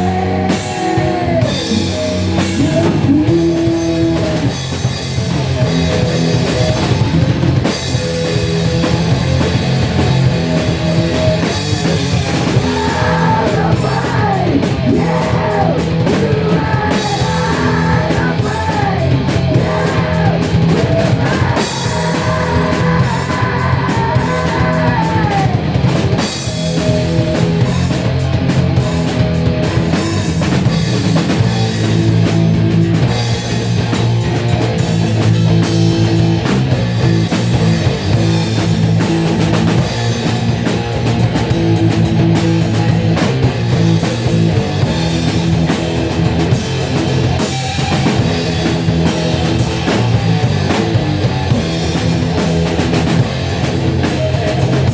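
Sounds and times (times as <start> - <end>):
pitch-bending lead guitar line: 0.0 - 54.9
rock band playing: 0.0 - 54.9.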